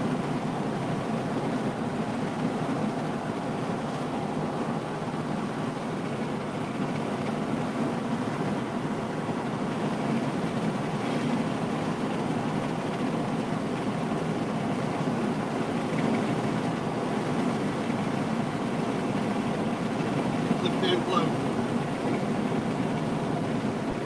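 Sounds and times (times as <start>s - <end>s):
road and engine noise in cabin: 0.0s - 24.0s.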